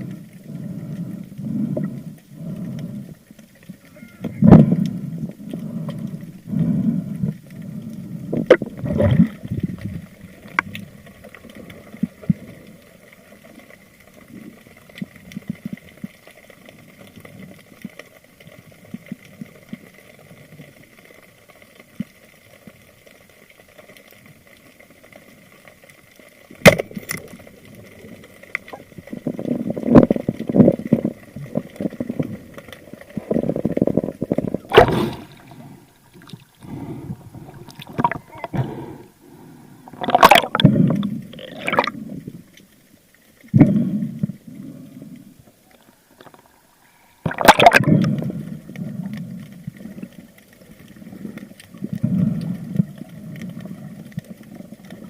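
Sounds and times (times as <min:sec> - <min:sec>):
choppy water splashing: 0:00.0 - 0:22.7, 0:23.3 - 0:46.5, 0:47.2 - 0:55.0
water gurgling: 0:00.0 - 0:55.0.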